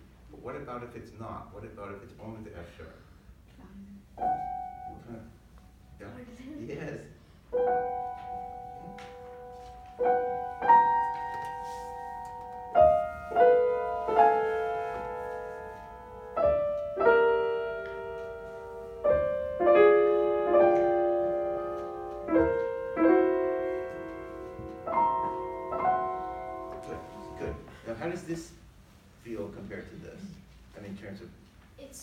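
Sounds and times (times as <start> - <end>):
slow soft piano: 3.3 - 30.6.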